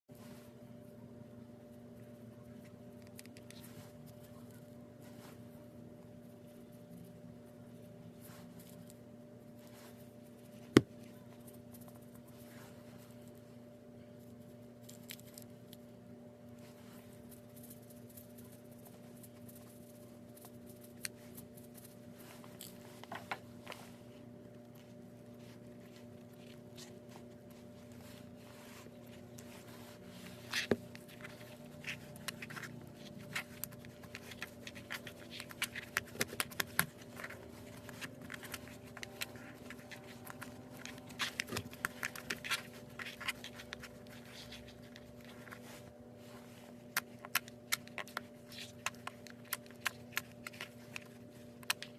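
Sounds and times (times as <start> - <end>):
steady low hum: 0.1 - 51.9.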